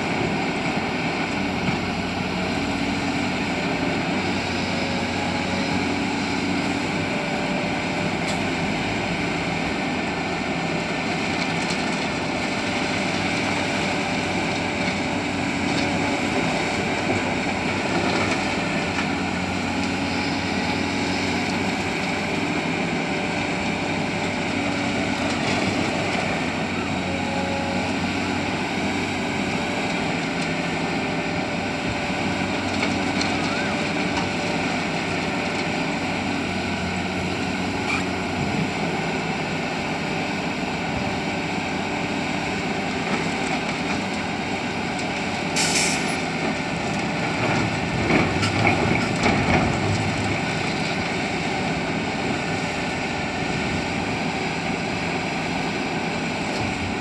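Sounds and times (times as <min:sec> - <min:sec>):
heavy diesel excavator engine: 0:00.0 - 0:57.0.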